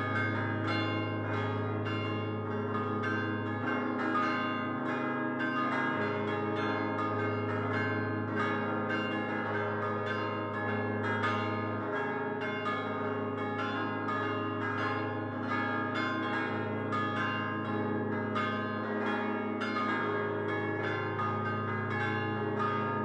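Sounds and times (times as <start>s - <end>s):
church bells pealing: 0.0s - 23.0s
low hum of large bells: 0.0s - 23.0s.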